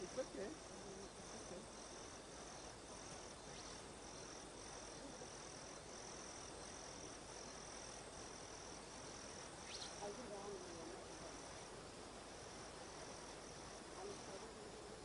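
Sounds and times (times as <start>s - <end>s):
insect chirring: 0.0s - 15.0s
steady hiss: 0.0s - 15.0s.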